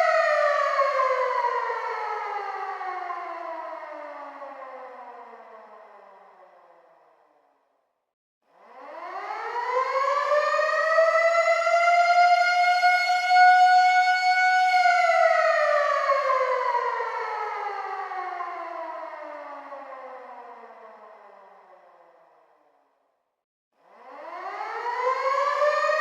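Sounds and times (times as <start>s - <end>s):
air raid siren wailing: 0.0s - 6.4s, 8.8s - 21.8s, 24.0s - 26.0s.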